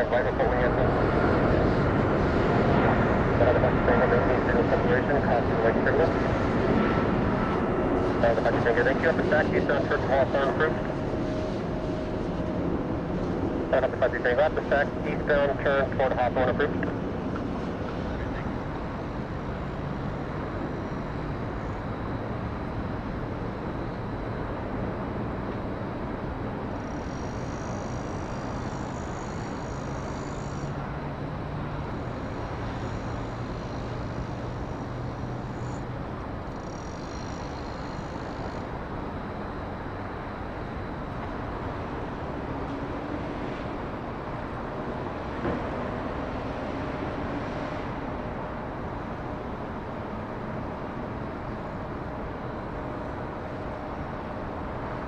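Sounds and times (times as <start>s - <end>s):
distant jet engine rumble: 0.0s - 55.0s
faint high whine: 0.0s - 55.0s.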